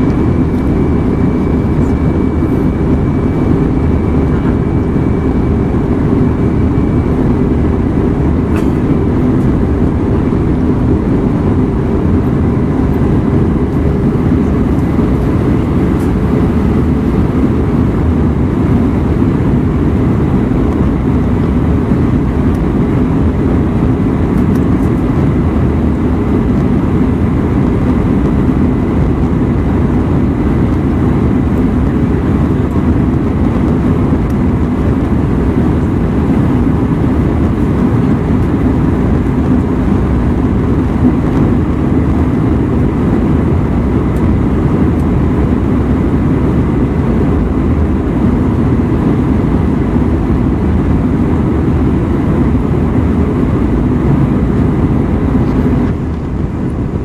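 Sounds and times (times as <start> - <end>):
airplane cabin engine rumble: 0.0 - 57.0
faint steady whines: 0.0 - 57.0.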